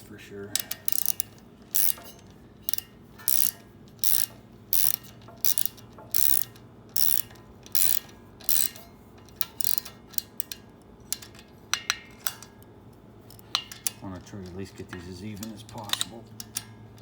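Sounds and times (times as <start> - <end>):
ratchet wrench clicking: 0.5 - 12.6, 13.2 - 17.0.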